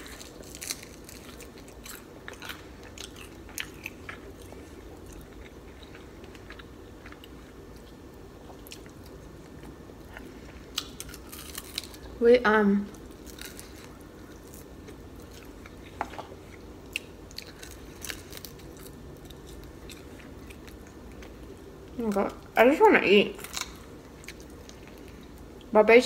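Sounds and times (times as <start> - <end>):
person chewing crispy food: 0.0 - 12.2, 12.9 - 22.2, 23.4 - 25.7.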